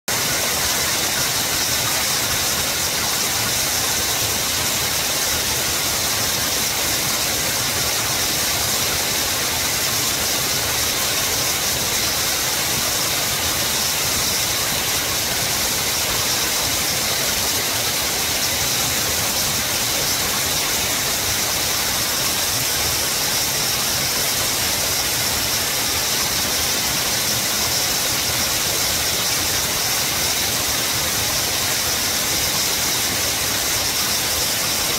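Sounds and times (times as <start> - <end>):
mountain stream rushing: 0.1 - 34.9.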